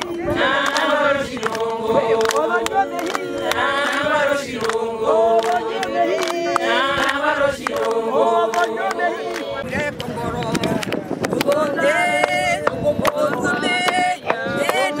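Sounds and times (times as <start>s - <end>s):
women singing unaccompanied: 0.0s - 9.6s, 11.3s - 15.0s
sharp hand claps: 0.0s - 15.0s.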